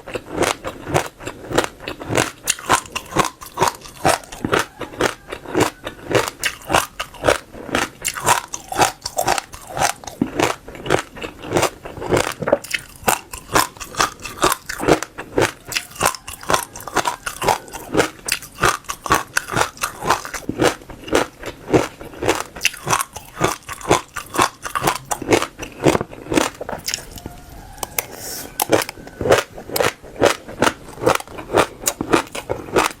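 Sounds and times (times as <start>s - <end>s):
crunchy seeds being chewed: 0.0s - 33.0s.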